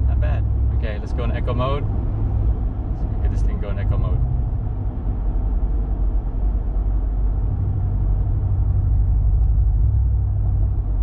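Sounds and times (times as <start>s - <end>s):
deep exhaust rumble while driving: 0.0s - 11.0s.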